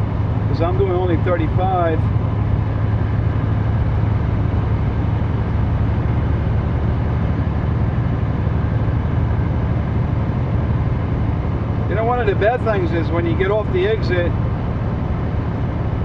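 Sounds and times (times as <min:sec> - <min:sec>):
road and tyre noise: 0:00.0 - 0:16.0
truck diesel engine droning: 0:00.0 - 0:16.0.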